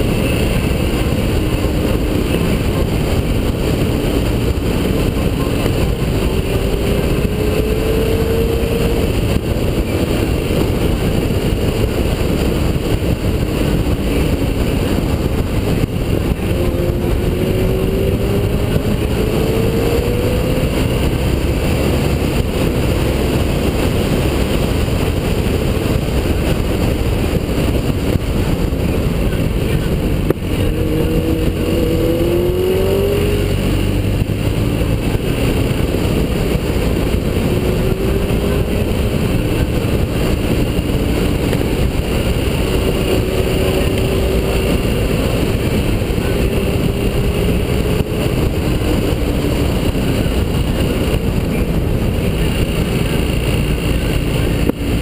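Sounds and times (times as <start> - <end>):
motorcycle engine: 0.0 - 55.0
wind and road noise: 0.0 - 55.0.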